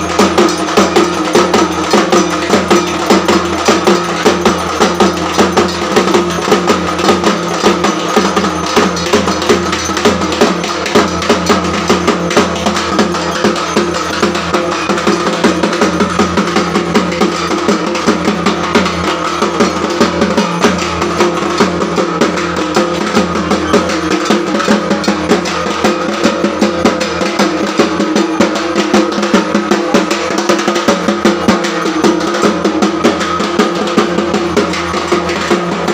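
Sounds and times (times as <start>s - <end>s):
barrel drum beaten rapidly: 0.0s - 35.9s.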